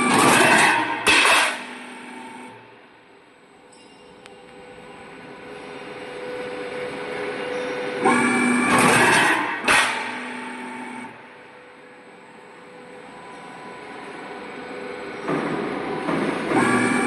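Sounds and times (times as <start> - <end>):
roll forming machine running: 0.0 - 2.6, 4.5 - 17.0.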